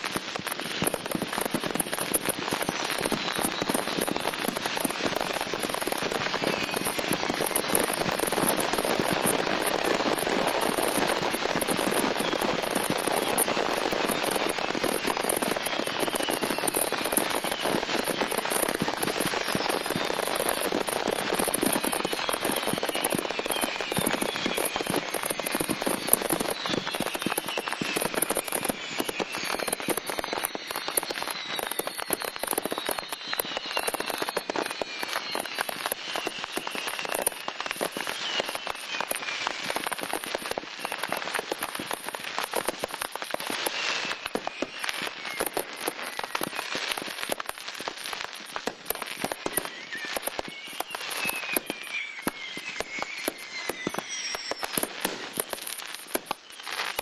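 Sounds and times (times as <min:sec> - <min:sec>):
firecracker bangs and crackling: 0:00.0 - 0:57.0
whistling fireworks falling in pitch: 0:00.0 - 0:57.0.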